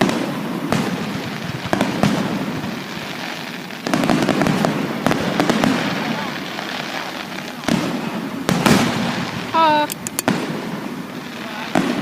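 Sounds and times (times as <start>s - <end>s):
fireworks bangs: 0.0s - 12.0s
rapid crackling fireworks: 0.0s - 12.0s.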